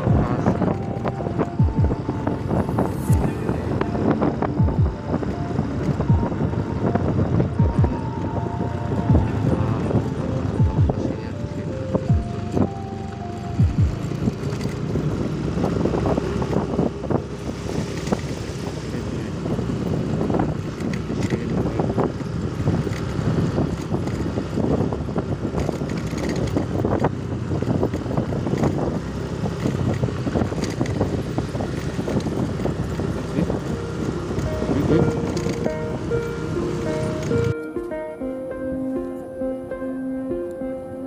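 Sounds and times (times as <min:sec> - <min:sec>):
wind buffeting microphone: 0:00.0 - 0:37.6
rumbling vehicle noise: 0:00.0 - 0:41.0.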